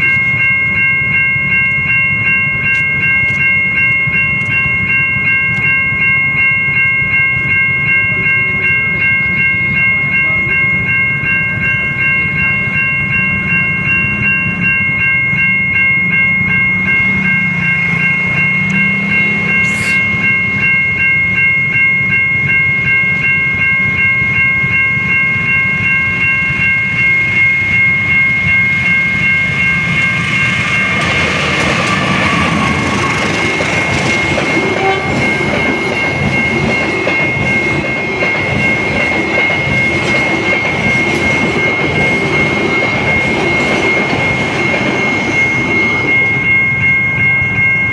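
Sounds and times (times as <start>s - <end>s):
level crossing warning bell: 0.0s - 47.9s
train rumbling past: 0.0s - 47.9s.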